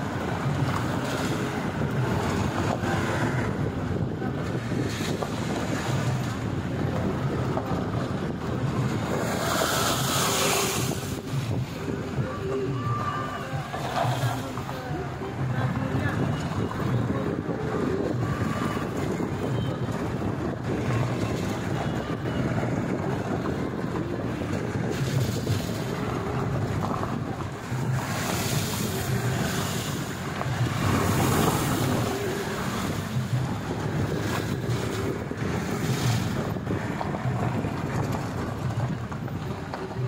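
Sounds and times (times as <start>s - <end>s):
tyres rumbling on gravel: 0.0s - 40.0s
wind buffeting microphone: 0.0s - 40.0s.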